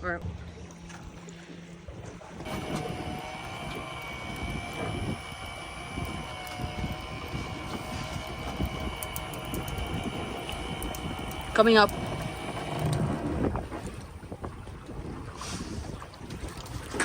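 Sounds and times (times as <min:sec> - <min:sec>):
boat motor whining: 0:00.3 - 0:17.0
wind on microphone: 0:02.4 - 0:17.0.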